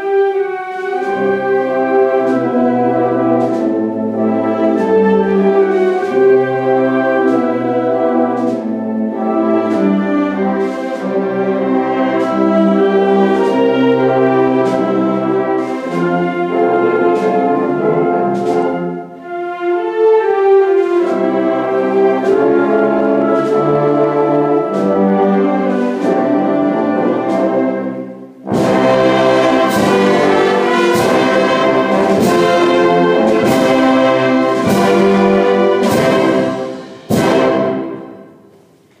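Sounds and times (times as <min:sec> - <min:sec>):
wind band playing a slow march: 0:00.0 - 0:38.9
steady drum strokes: 0:00.7 - 0:19.2, 0:20.9 - 0:39.0.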